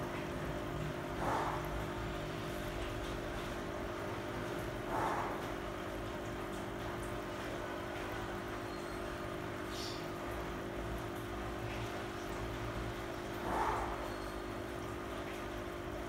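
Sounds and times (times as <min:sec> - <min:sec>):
aquarium air pump humming: 0:00.0 - 0:16.0.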